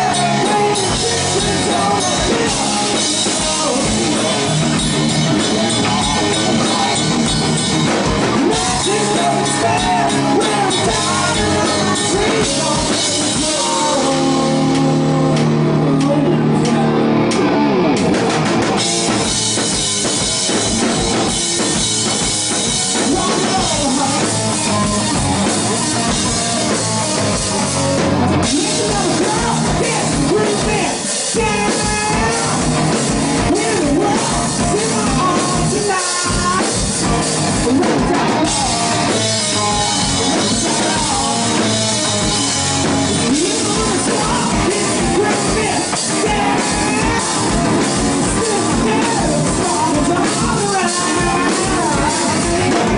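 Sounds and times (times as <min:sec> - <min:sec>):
person singing: 0:00.0 - 0:17.6, 0:18.8 - 0:52.9
bass guitar: 0:00.0 - 0:52.9
drum kit: 0:00.0 - 0:52.9
electric guitar: 0:00.0 - 0:52.9.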